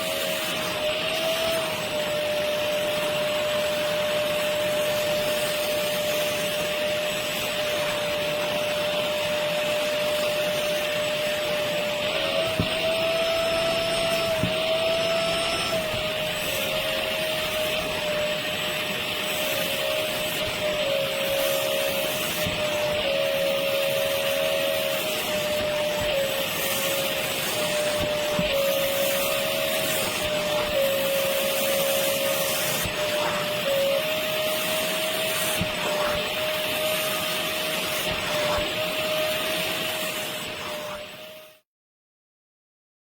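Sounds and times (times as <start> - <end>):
carpet cleaner motor whining: 0.0 - 41.6.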